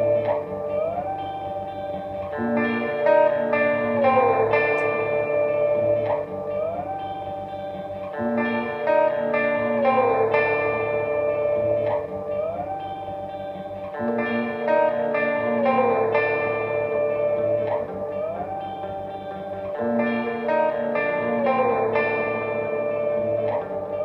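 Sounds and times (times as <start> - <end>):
electric guitar with chorus effect: 0.0 - 24.0.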